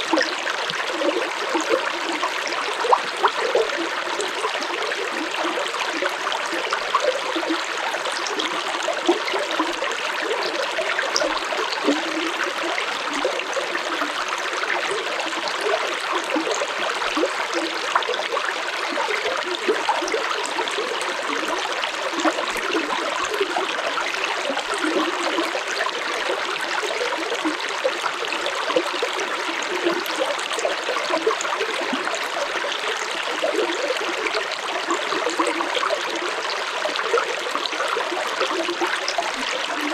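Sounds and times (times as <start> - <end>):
stream water splashing over rocks: 0.0 - 39.9.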